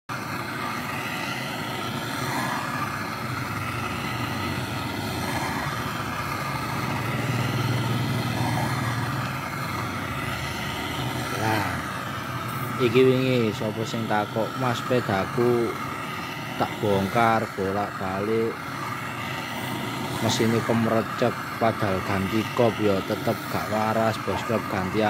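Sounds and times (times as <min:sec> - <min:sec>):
gas torch burning: 0:00.1 - 0:25.0
low hum: 0:00.1 - 0:25.0.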